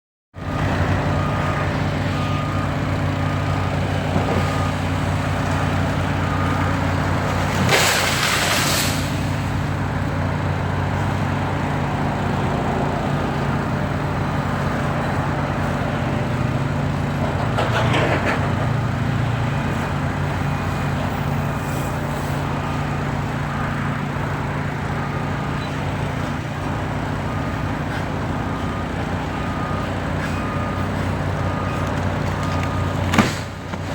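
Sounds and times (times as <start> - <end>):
large engine running: 0.4 - 8.2, 9.0 - 33.9.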